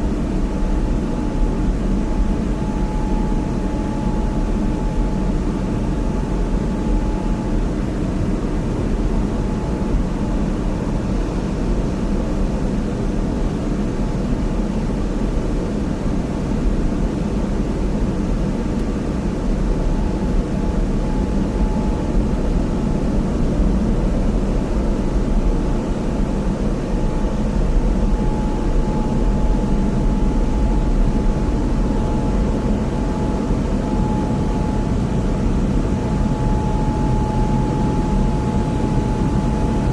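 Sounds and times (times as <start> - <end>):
faint steady whine: 0.0 - 39.9.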